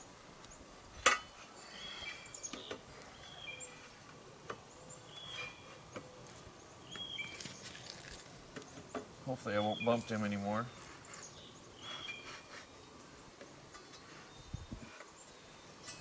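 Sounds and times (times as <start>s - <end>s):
birds chirping: 1.5s - 16.0s.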